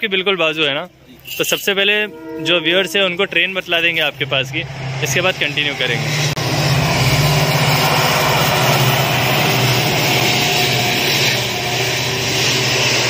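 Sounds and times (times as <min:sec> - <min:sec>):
train passing rumble: 0:01.0 - 0:13.0
low hum: 0:02.0 - 0:13.0.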